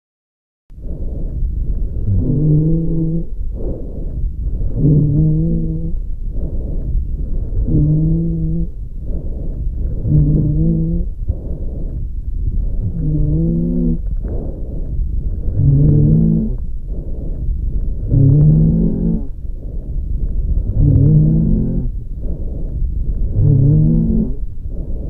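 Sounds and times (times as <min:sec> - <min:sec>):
wheezing breaths through stethoscope: 0:00.8 - 0:25.0.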